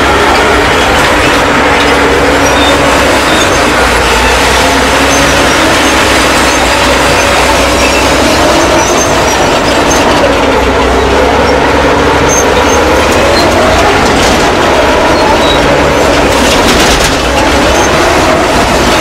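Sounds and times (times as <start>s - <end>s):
bulldozer diesel engine: 0.0s - 19.0s
steel tracks rolling: 0.0s - 19.0s.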